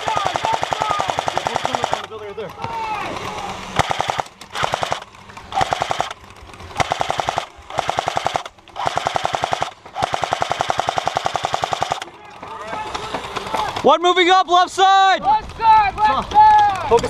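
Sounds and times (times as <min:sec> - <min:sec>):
airsoft rifle rapid bursts: 0:00.0 - 0:14.3.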